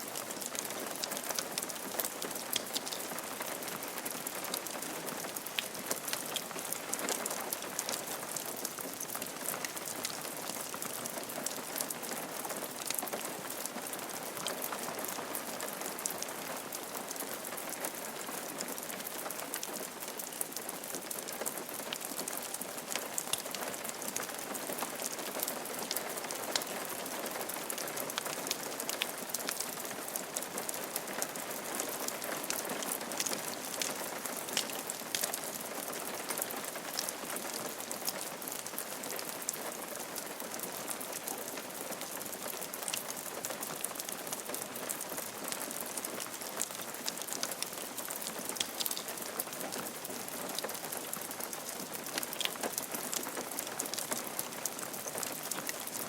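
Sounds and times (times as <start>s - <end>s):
rain on a roof: 0.0s - 56.0s.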